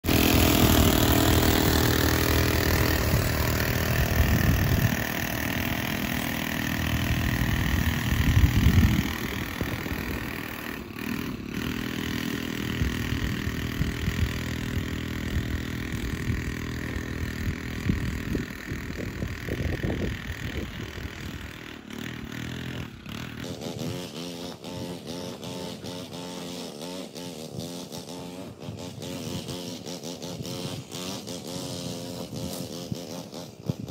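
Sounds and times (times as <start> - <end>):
string trimmer engine revving: 0.0 - 33.9.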